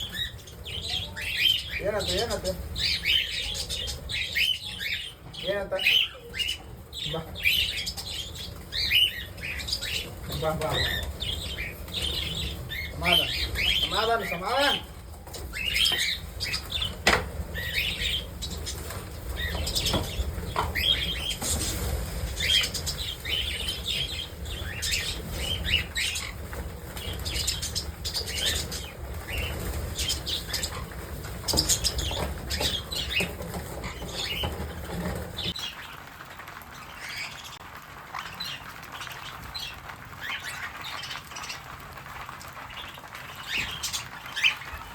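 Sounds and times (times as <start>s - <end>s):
parrots chirping and calling: 0.0s - 44.9s
wings flapping: 0.0s - 44.9s.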